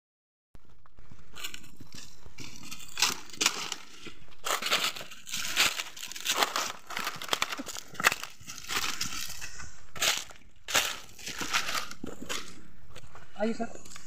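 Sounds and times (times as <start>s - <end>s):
footsteps on dry leaves: 0.7s - 14.0s.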